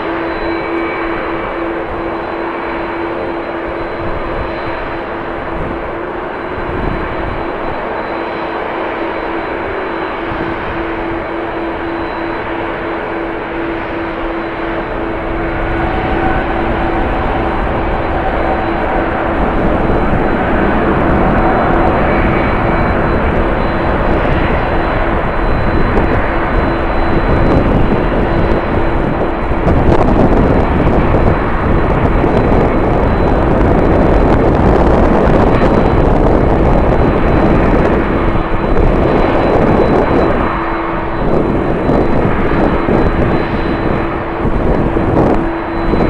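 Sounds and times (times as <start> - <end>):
airliner engines roaring: 0.0 - 46.0
steady hum: 0.0 - 46.0
wind rumbling on microphone: 0.0 - 46.0.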